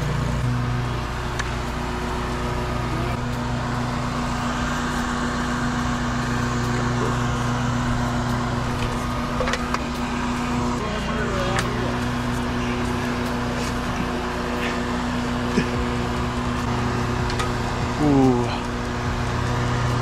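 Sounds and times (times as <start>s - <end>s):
engine running low hum: 0.0s - 20.0s.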